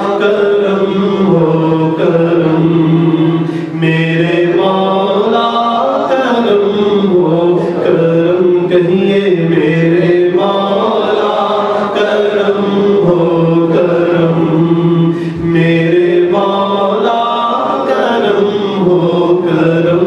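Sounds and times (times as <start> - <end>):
man chanting into microphone: 0.0 - 20.0.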